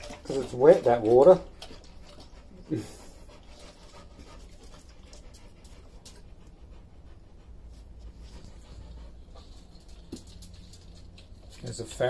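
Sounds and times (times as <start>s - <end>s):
dog panting: 0.0s - 12.0s
low steady rumble: 1.4s - 12.0s.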